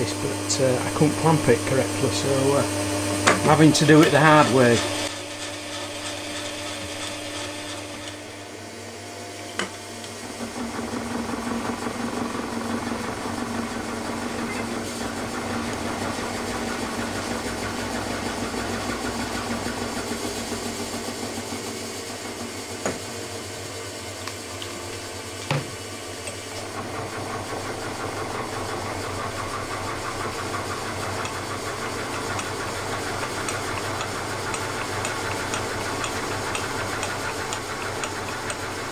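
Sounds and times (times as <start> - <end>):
milling machine cutting metal: 0.0 - 38.9.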